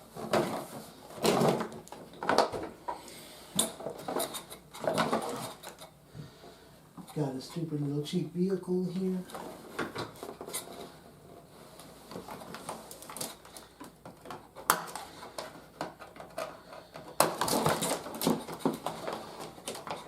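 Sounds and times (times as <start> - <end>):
packaging rustling and crinkling: 0.0 - 2.8, 3.5 - 5.9, 8.7 - 20.0.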